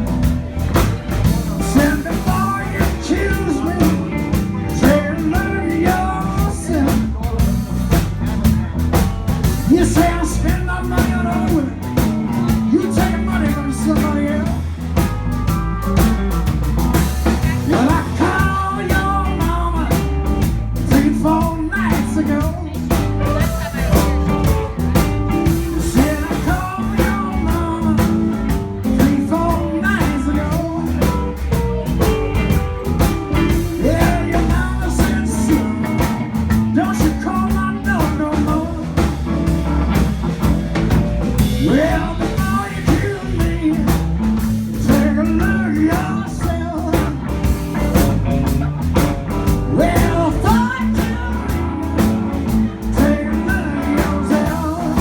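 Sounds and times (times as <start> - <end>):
bass guitar: 0.0 - 55.0
drum kit: 0.0 - 55.0
electric guitar lead: 0.0 - 55.0.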